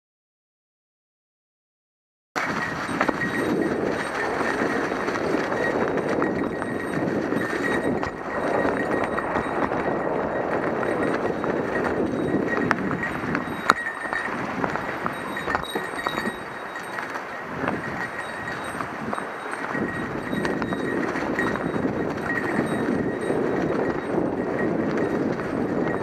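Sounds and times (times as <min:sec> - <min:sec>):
bike tyres on rough trail: 0:02.4 - 0:26.0.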